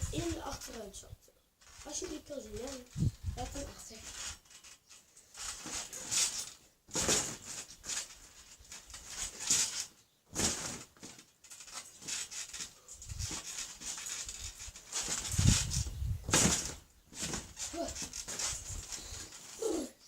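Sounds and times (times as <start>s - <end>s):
person bouncing on trampoline: 0.0s - 20.0s.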